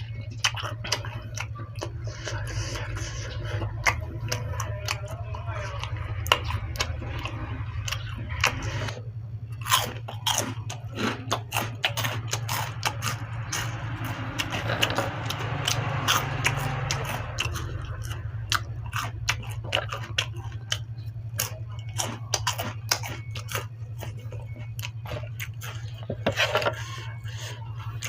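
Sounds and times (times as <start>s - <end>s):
person chewing crunchy food: 0.0s - 28.0s
steady low hum: 0.0s - 28.0s.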